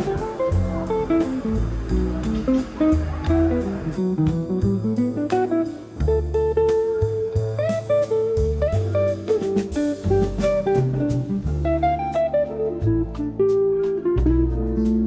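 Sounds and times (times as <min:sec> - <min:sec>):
guitar music with bass and beat: 0:00.0 - 0:15.0.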